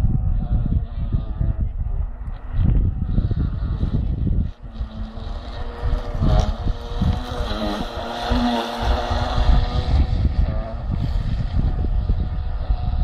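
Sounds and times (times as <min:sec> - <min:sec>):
electric boat motor whine: 0:00.0 - 0:13.0.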